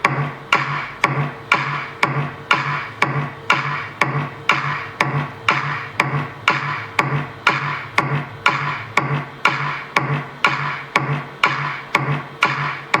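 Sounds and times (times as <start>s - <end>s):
bass-boosted electronic music: 0.6s - 13.0s.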